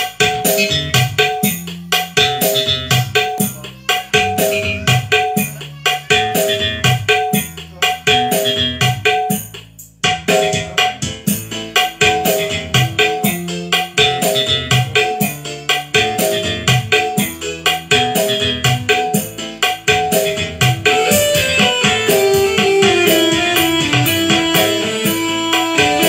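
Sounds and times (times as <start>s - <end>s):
keyboard chords: 0.0s - 9.4s, 10.0s - 26.0s
bass line: 0.0s - 26.0s
hand-drum beat: 0.0s - 26.0s.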